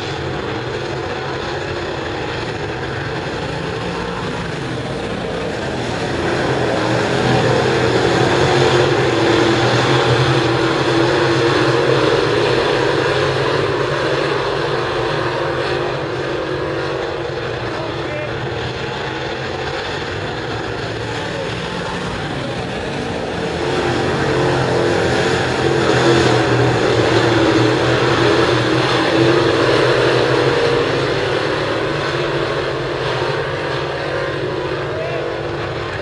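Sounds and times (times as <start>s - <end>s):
race car engines roaring: 0.0s - 36.0s.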